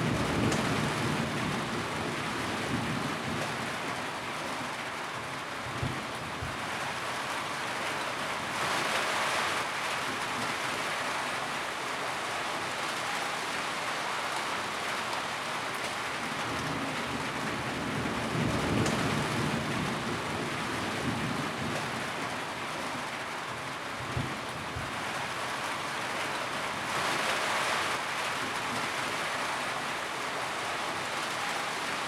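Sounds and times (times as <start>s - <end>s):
rain on a tin roof: 0.0s - 32.0s.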